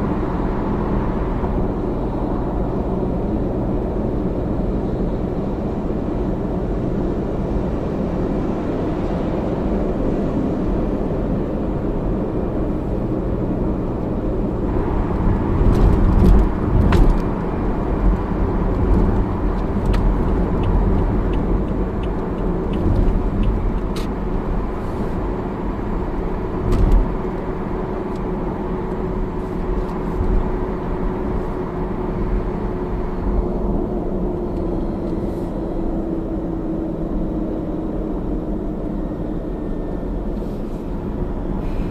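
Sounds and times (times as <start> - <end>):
car running rumble: 0.0 - 41.9.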